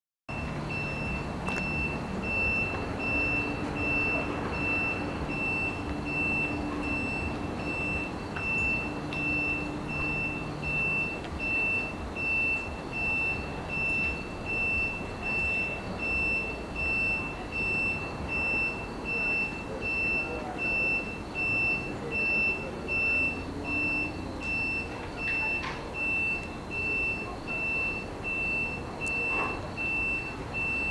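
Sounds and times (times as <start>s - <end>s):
high electronic warning beep: 0.3s - 30.9s.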